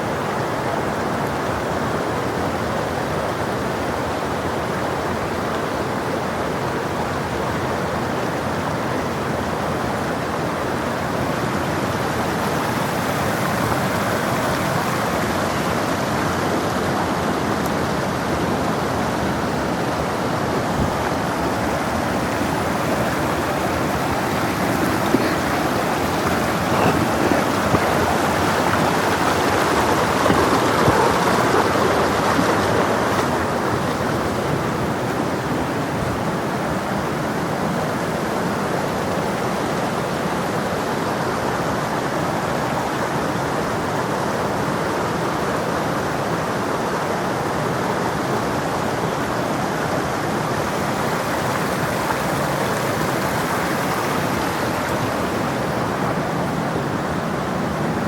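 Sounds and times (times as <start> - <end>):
brook running over stones: 0.5 - 42.2, 48.7 - 58.0.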